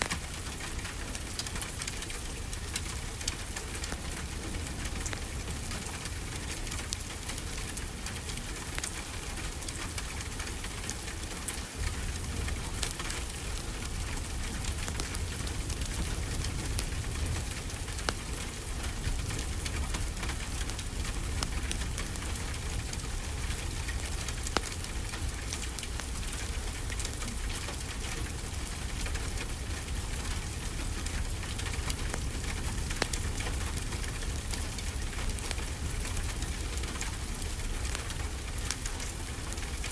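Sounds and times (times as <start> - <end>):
steady rainfall hiss: 0.0 - 39.9
wood fire crackling and popping: 0.0 - 39.9.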